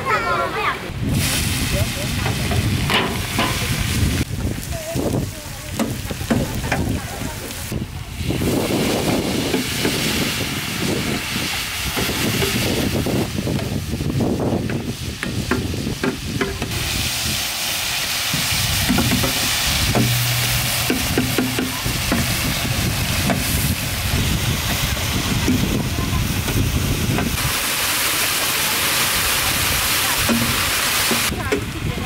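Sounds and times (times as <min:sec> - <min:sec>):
paste sizzling in oil: 0:01.0 - 0:31.8.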